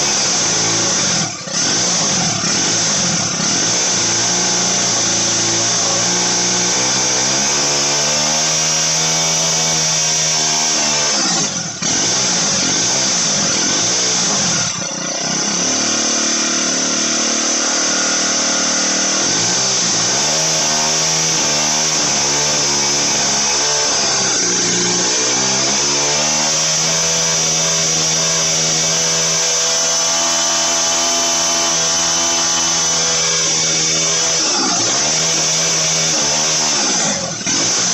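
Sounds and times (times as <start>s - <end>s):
small two-stroke engine revving: 0.0s - 37.9s.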